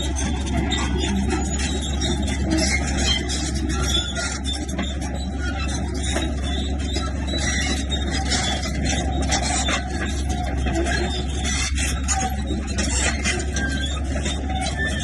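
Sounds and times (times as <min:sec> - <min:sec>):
bulldozer engine running: 0:00.0 - 0:15.0.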